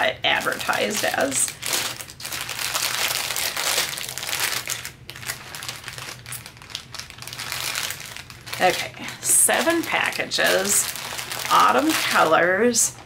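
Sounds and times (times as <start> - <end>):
plastic bags crinkling: 0.3 - 13.0.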